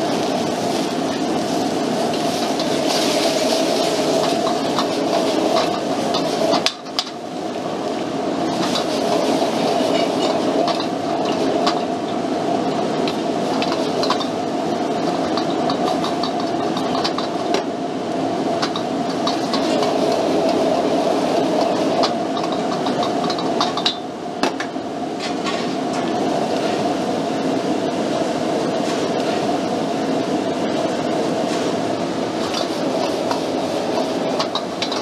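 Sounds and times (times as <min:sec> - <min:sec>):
gas burner rushing: 0:00.0 - 0:35.0.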